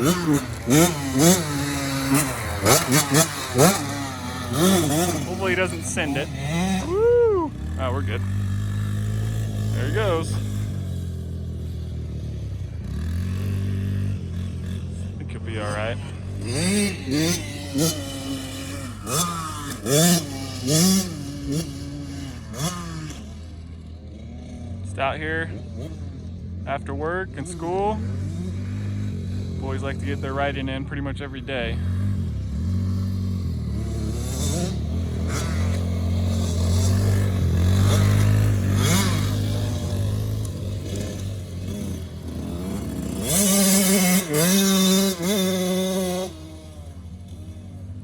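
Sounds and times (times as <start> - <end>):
small engine revving: 0.0 - 48.0.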